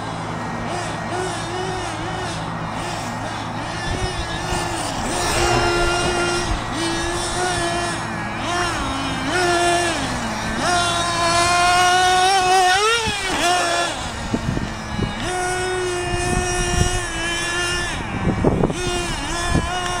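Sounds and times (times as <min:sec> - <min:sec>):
rc truck motor whining: 0:00.0 - 0:20.0.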